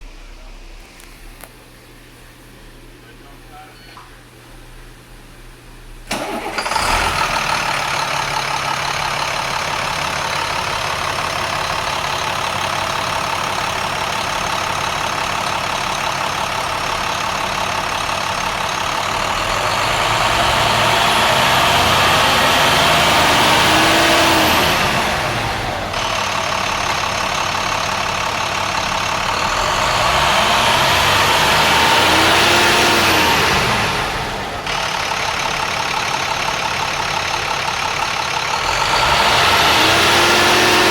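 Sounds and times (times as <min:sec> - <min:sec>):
diesel engine starting and revving: 0:06.0 - 0:40.9.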